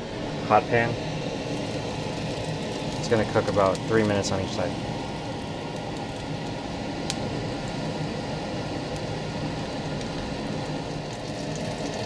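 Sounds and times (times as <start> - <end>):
fish sizzling in a skillet: 1.0 - 8.0, 8.8 - 12.0.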